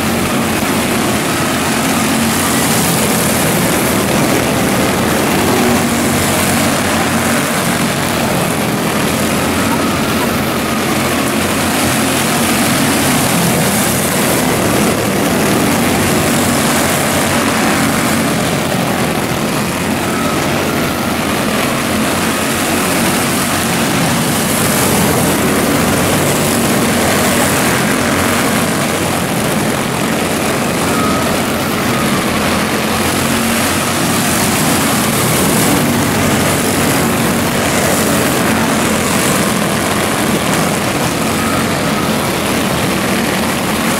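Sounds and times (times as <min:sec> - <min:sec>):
small racing engines droning: 0:00.0 - 0:43.9.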